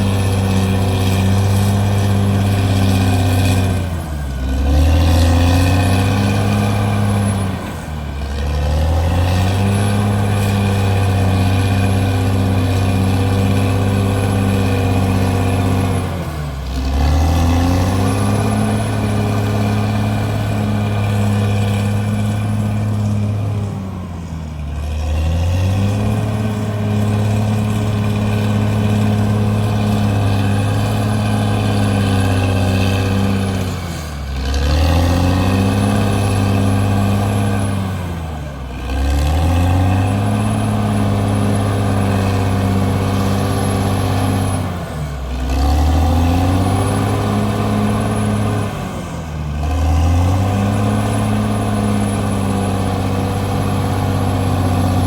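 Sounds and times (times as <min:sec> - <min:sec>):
bulldozer diesel engine running hard: 0:00.0 - 0:55.0.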